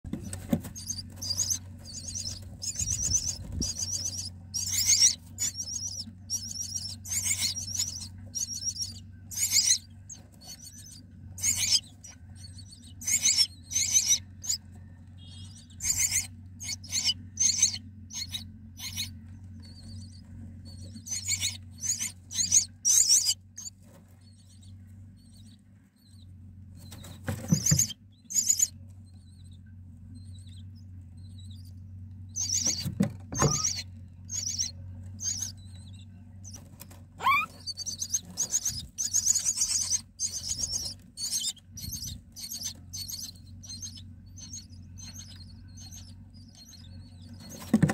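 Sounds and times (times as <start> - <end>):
steady low hum: 0.1 - 47.9
nestlings begging squeals: 0.2 - 47.9.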